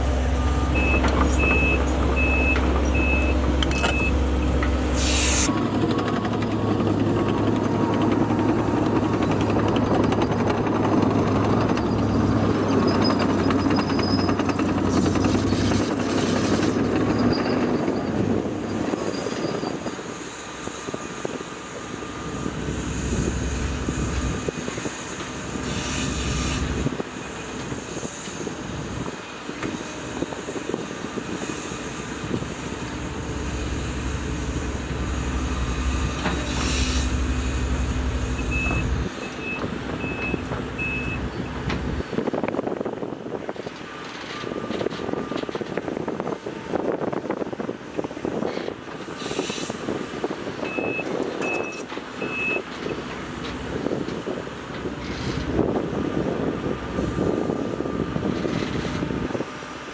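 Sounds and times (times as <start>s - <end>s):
excavator diesel engine working: 0.0s - 59.9s.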